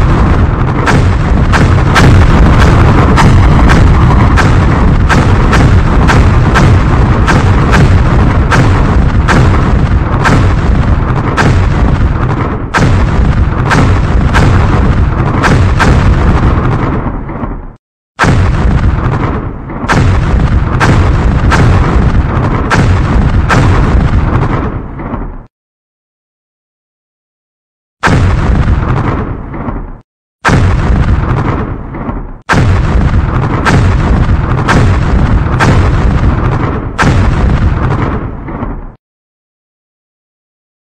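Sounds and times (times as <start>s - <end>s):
heavy rumble: 0.0s - 25.5s, 28.0s - 38.9s
landmines detonating: 0.0s - 25.5s, 28.0s - 39.0s
sharp bangs: 0.0s - 25.5s, 28.0s - 39.0s.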